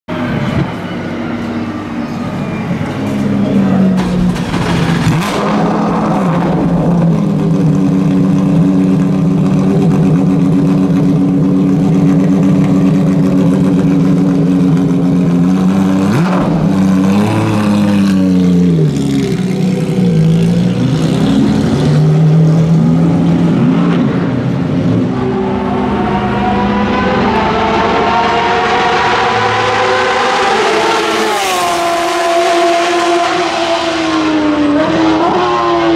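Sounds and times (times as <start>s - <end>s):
race car engine idling and revving: 0.1s - 35.9s.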